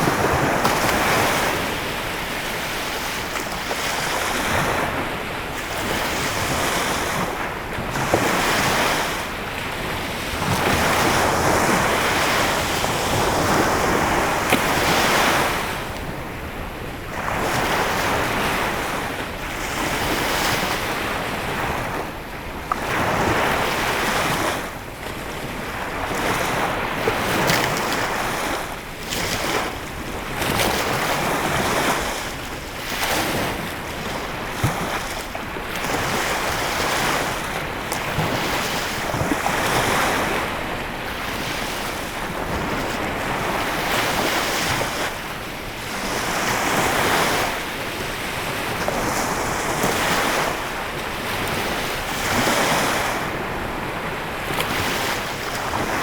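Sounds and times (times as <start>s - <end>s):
waves washing onto shore: 0.0s - 56.0s.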